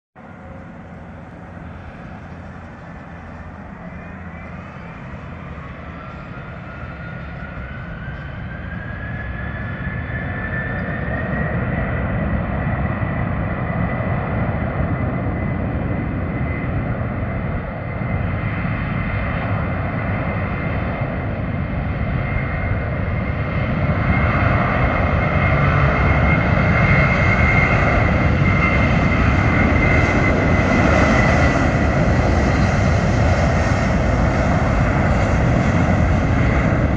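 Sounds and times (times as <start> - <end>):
deep jet rumble: 0.2 - 36.9
jet engine whine: 0.2 - 36.9.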